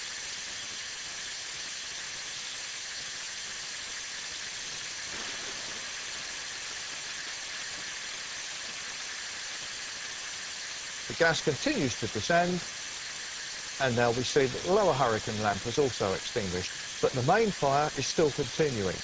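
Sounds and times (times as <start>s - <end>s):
gas discharge hissing: 0.1s - 19.0s.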